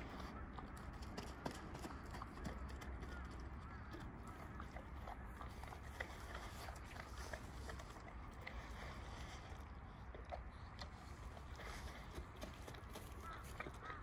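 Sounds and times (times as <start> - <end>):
dog chewing and lip smacking: 0.0 - 14.0.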